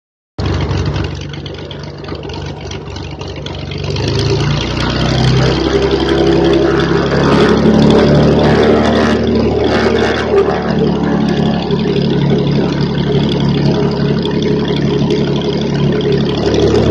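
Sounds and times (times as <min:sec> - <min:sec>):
propeller aircraft engine taxiing: 0:00.4 - 0:16.9.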